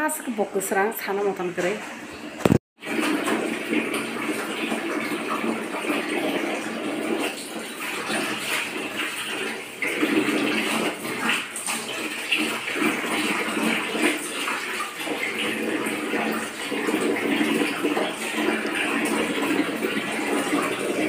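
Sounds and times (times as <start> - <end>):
water sloshing in tub: 1.4 - 21.0.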